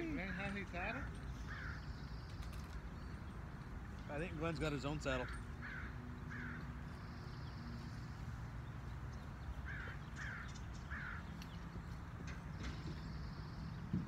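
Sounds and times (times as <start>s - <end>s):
bird calling: 0.0s - 3.5s, 4.4s - 14.0s.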